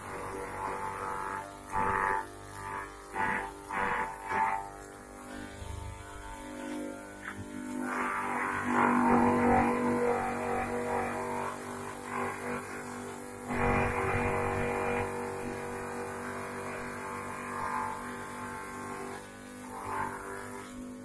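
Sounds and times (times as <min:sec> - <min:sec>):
electric grass chopper humming: 0:00.0 - 0:21.0.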